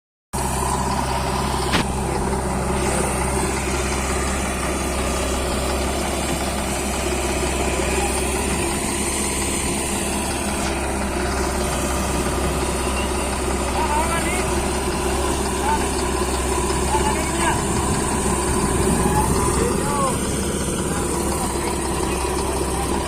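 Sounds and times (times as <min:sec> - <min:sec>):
diesel engine idling: 0:00.4 - 0:23.0.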